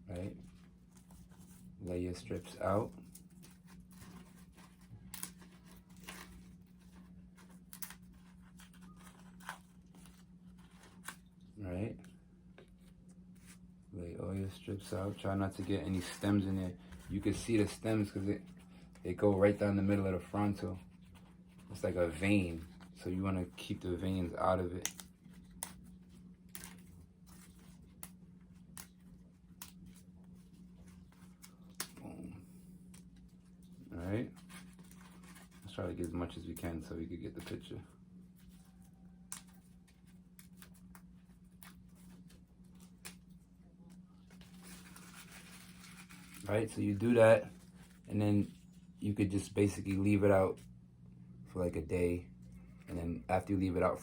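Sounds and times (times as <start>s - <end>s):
dried leaf crinkling and tearing: 0.0s - 54.0s
low steady hum: 0.0s - 54.0s.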